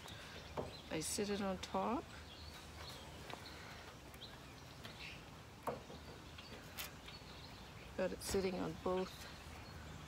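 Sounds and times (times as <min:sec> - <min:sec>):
bird chirp: 0:00.0 - 0:10.0.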